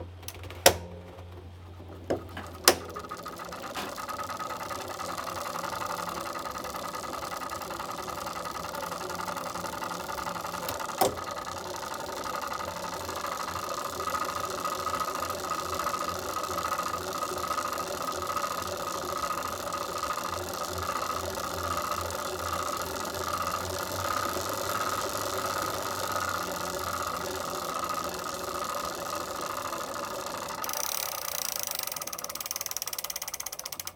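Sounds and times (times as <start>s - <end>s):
bike trainer whirring and rattling: 0.0s - 33.9s.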